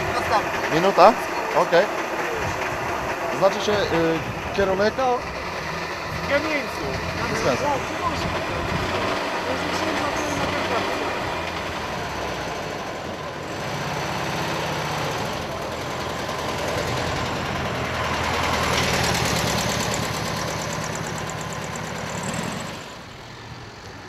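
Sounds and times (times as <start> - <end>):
car engine passing slowly: 0.0 - 24.0.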